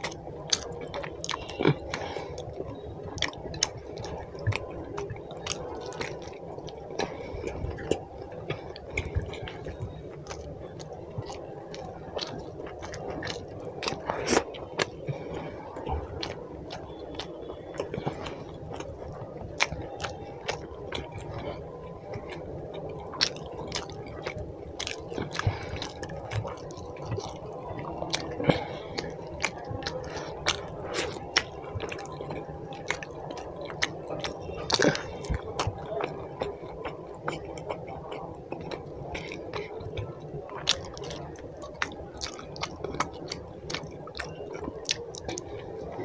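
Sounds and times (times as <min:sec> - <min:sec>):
wet open-mouthed chewing: 0:00.0 - 0:46.0.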